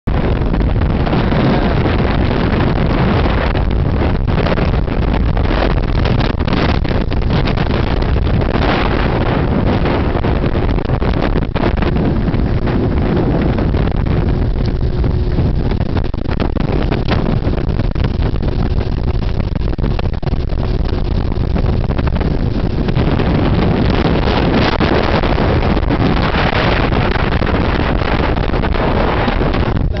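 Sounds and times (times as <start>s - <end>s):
motorboat engine: 0.0s - 30.0s
wind rumble on microphone: 0.0s - 30.0s.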